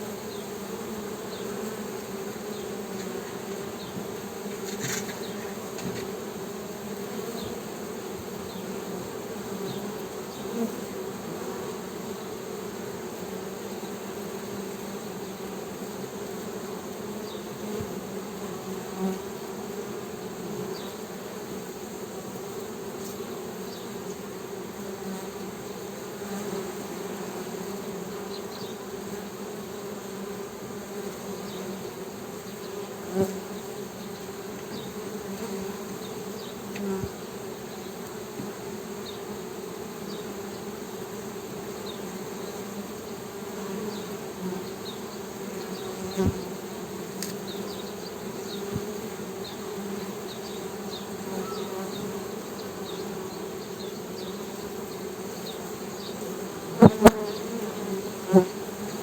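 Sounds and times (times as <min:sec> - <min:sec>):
bees humming: 0:00.0 - 0:59.0.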